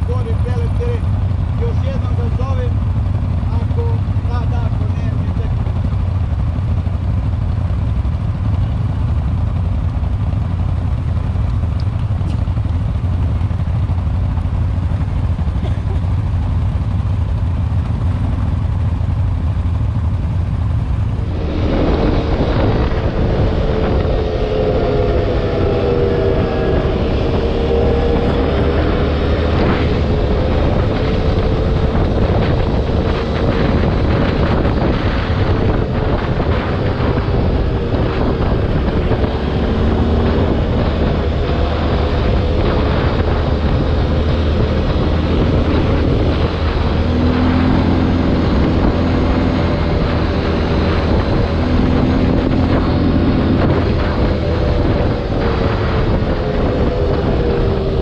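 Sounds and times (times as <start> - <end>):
atv engine running: 0.0 - 58.0
wind rumble on microphone: 0.0 - 58.0.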